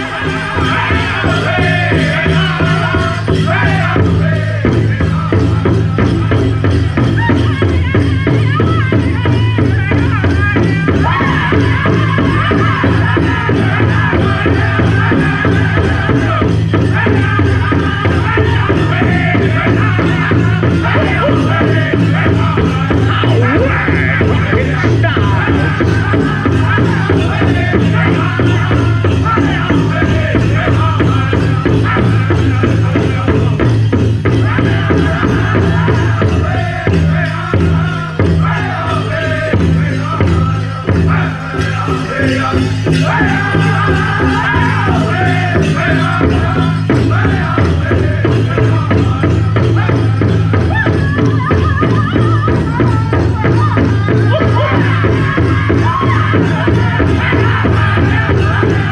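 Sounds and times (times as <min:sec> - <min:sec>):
group singing in high voices: 0:00.0 - 0:58.9
jingling leg bells: 0:00.0 - 0:58.9
steady unison drumbeat: 0:00.0 - 0:58.9.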